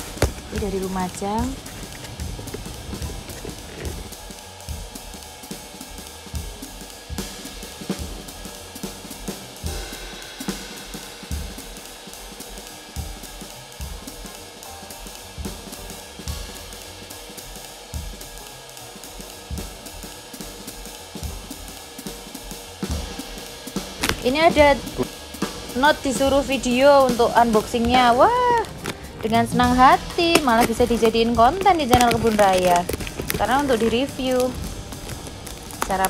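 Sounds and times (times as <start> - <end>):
music with drum-kit beat: 0.0 - 36.0.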